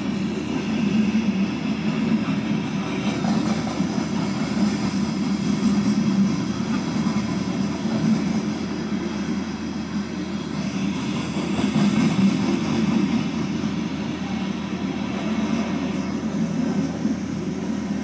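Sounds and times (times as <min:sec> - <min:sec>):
train cars rumbling on rails: 0:00.0 - 0:18.0.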